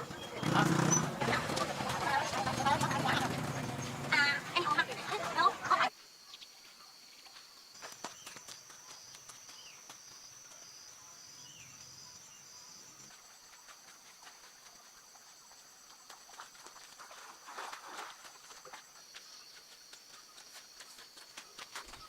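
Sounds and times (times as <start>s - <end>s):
pulsing insect call: 0.0s - 22.0s.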